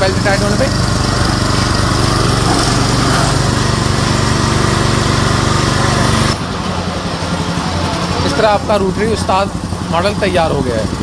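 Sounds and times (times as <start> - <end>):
petrol engine running: 0.0 - 11.0.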